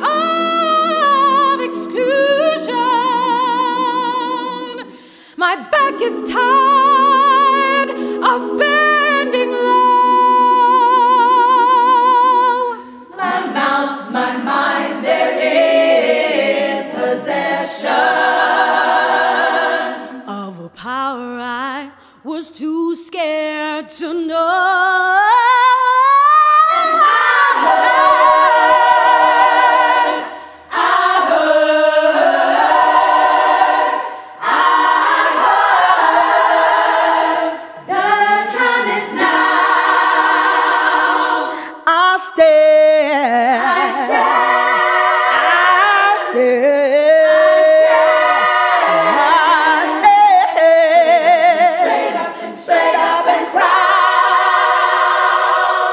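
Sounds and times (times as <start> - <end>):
women's choir singing a cappella: 0.0 - 55.9.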